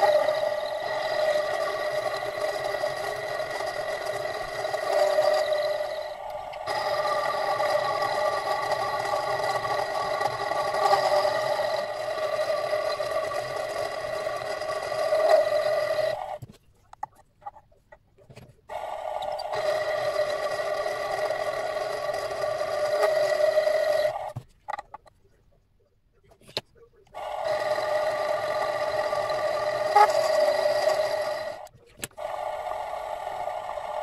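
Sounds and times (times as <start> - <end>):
mini lathe whining: 0.0 - 16.4, 18.7 - 25.1, 27.1 - 34.0.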